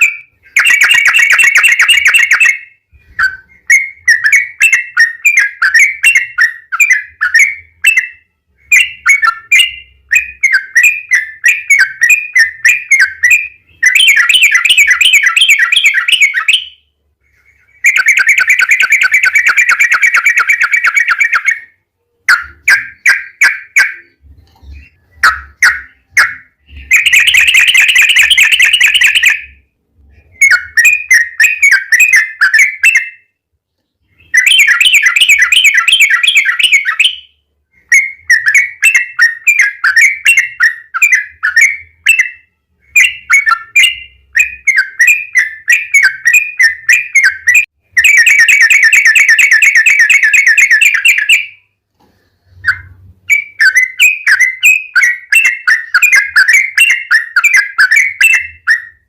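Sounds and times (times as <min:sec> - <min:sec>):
songbird chirping and trilling: 0:00.0 - 0:59.0.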